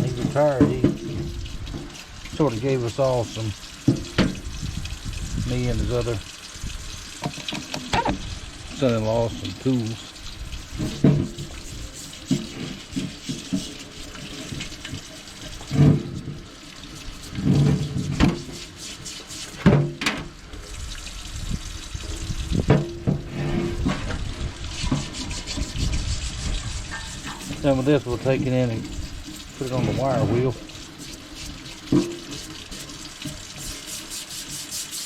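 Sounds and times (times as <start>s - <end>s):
running water splashing on metal: 0.0s - 35.0s.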